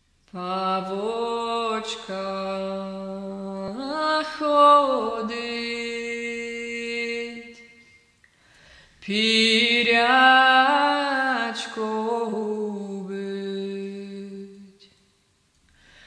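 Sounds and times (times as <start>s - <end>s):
woman singing unaccompanied: 0.3s - 7.9s, 9.0s - 14.9s.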